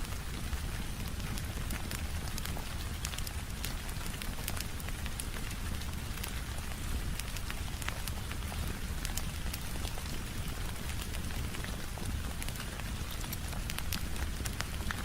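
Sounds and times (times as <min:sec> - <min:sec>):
rain falling: 0:00.1 - 0:15.0
wood fire crackling: 0:01.0 - 0:15.0.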